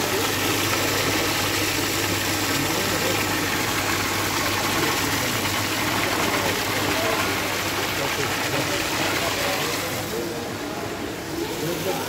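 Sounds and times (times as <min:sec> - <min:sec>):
water pouring into a pool: 0:00.0 - 0:12.0.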